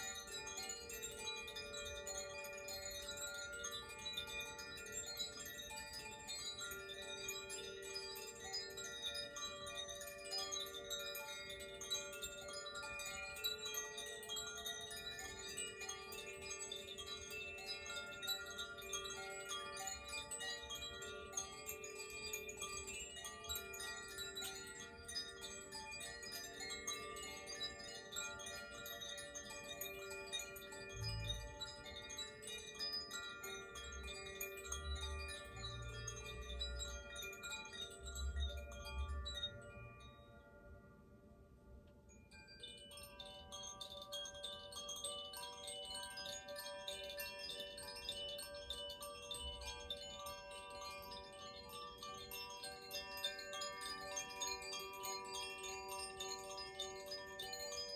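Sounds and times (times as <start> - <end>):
wind chimes ringing: 0.0 - 57.9.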